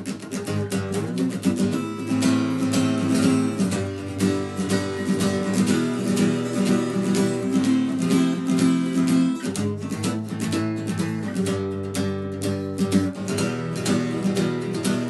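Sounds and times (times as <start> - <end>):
fast strummed guitar: 0.0 - 15.0.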